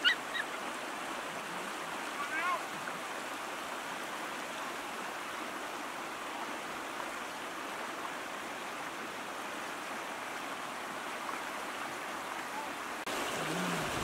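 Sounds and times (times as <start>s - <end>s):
river rapids rushing over rocks: 0.0s - 14.0s.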